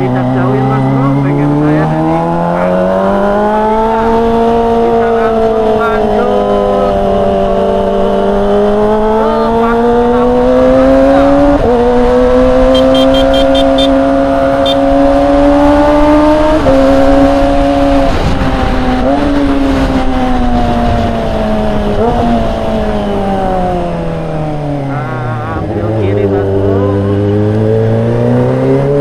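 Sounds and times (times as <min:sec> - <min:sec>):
motorcycle engine while riding: 0:00.0 - 0:29.0.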